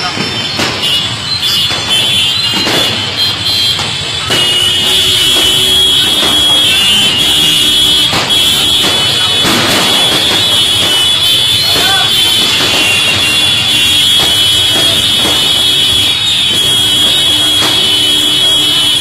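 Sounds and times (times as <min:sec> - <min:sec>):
firecrackers banging: 0:00.0 - 0:19.0.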